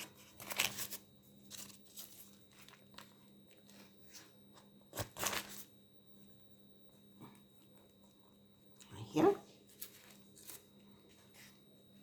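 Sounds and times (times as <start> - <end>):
pastry sheets crinkling: 0.0 - 5.8, 7.4 - 12.0.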